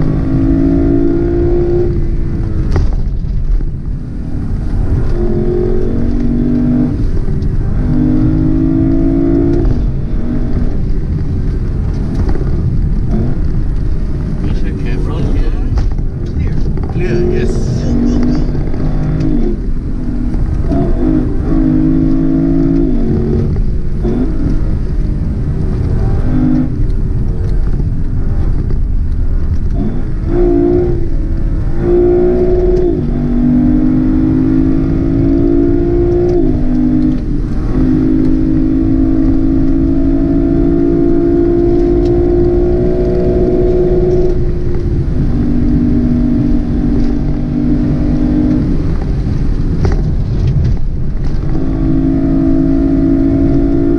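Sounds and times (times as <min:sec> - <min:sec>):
car engine accelerating: 0:00.0 - 0:53.9
low rumble of road noise: 0:00.0 - 0:53.9.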